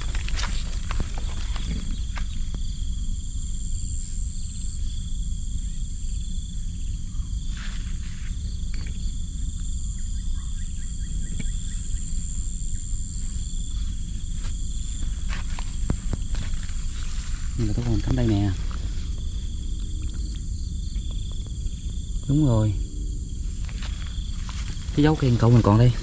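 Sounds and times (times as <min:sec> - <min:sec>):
insects trilling: 0:00.0 - 0:26.0
low rumble: 0:00.0 - 0:26.0.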